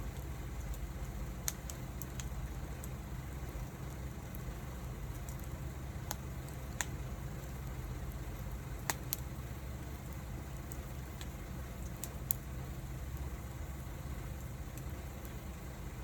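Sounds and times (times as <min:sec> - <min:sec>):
fire crackling pops: 0:00.0 - 0:16.0
low fire rumble: 0:00.0 - 0:16.0.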